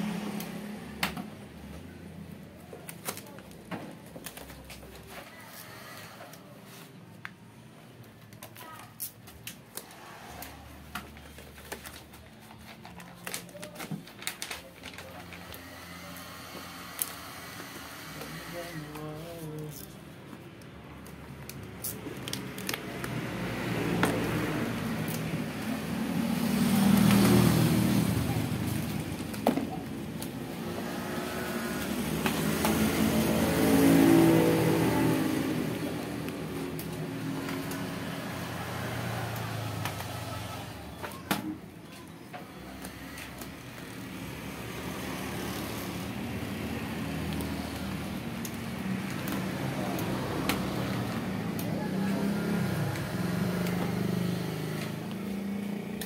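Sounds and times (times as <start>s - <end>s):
vehicles passing on a road: 0.0s - 56.0s.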